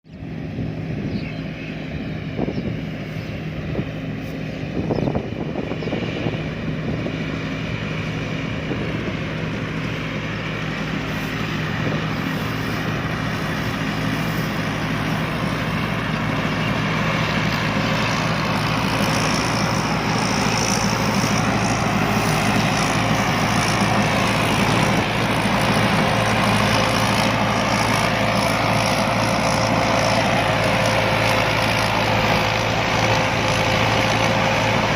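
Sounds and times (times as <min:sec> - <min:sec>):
harvester engine humming: 0:00.0 - 0:34.9.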